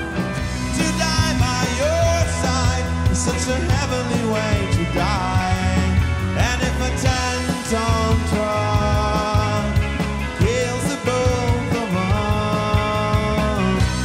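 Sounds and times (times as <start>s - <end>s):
bass guitar: 0.0s - 14.0s
drums steady beat: 0.0s - 14.0s
electric guitar: 0.0s - 14.0s
male lead vocal: 0.6s - 14.0s.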